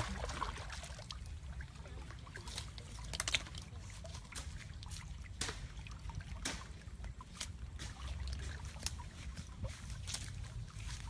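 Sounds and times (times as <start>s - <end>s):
steady low rumble: 0.0s - 11.0s
water splashing and trickling: 0.0s - 11.0s.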